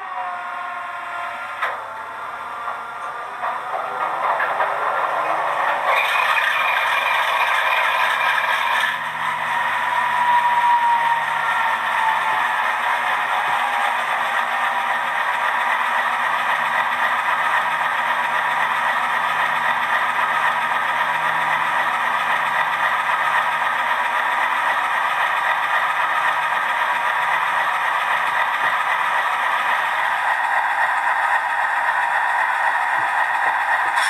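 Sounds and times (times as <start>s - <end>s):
model train diesel engine sound: 0.0s - 34.0s.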